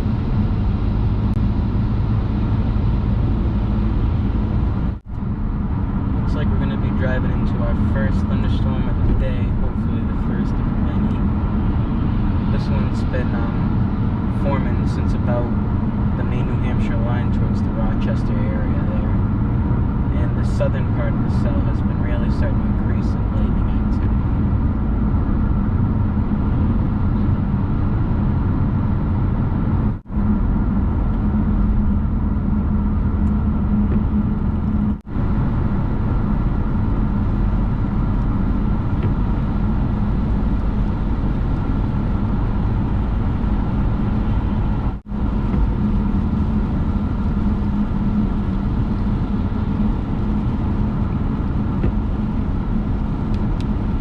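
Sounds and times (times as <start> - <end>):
road and engine noise inside car: 0.0 - 54.0.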